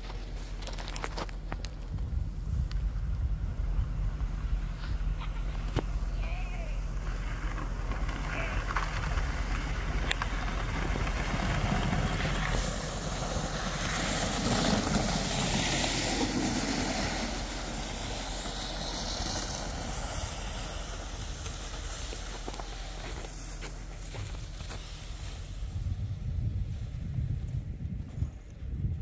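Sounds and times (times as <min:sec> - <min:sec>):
sleds scraping over snow: 0:00.0 - 0:29.0.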